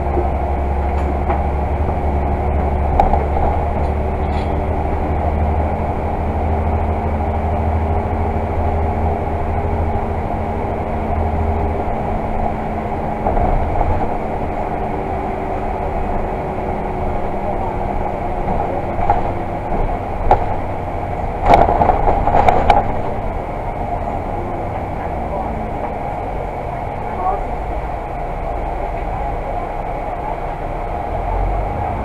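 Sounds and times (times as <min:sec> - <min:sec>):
bus diesel engine drone: 0:00.0 - 0:32.0
road rumble: 0:00.0 - 0:32.0.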